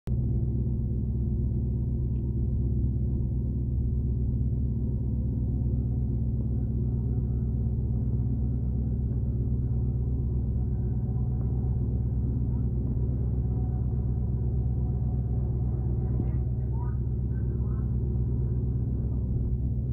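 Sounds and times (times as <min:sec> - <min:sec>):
boat engine droning: 0:00.1 - 0:19.9.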